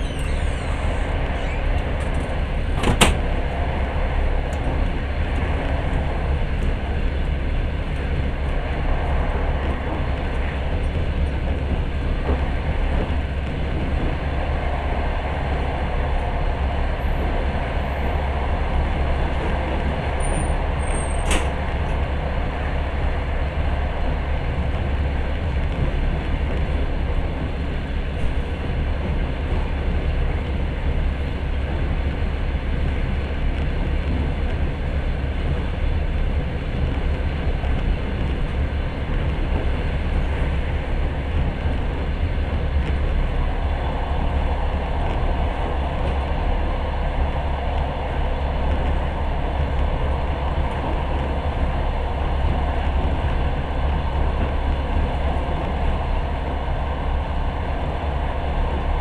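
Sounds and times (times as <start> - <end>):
train rumbling inside carriage: 0.0 - 59.0.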